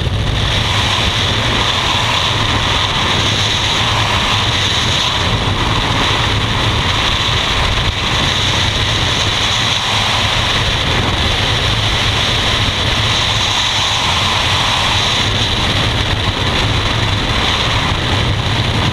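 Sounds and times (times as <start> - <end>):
wind rushing over microphone: 0.0 - 18.9.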